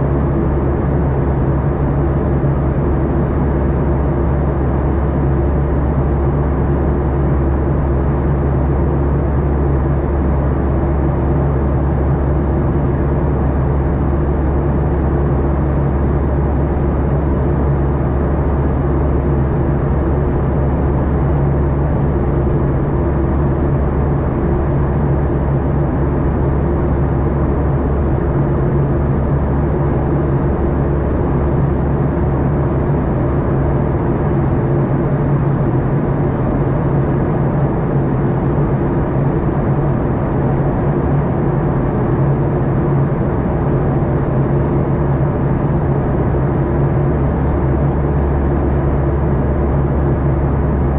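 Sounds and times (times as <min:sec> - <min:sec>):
airplane engines droning in cabin: 0:00.0 - 0:50.9.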